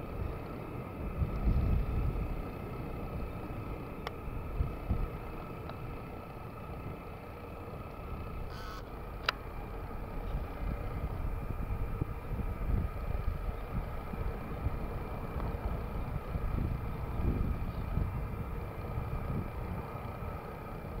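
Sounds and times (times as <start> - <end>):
jet engines rumbling in flight: 0.0 - 21.0.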